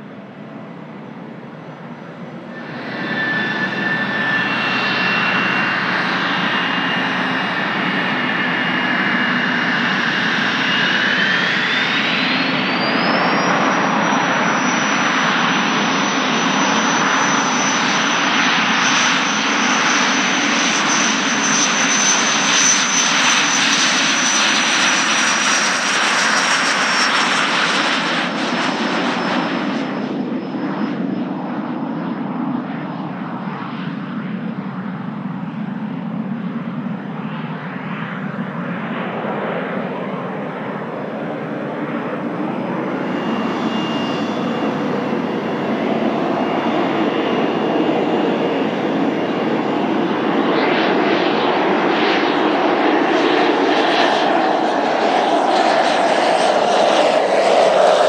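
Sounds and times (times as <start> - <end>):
jet engine whine: 0.0 - 58.0
jet roar: 0.0 - 58.0.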